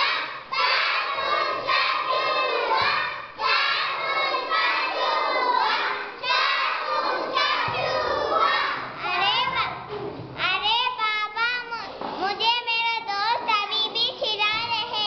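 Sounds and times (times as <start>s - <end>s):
children singing and shouting: 0.0s - 15.0s.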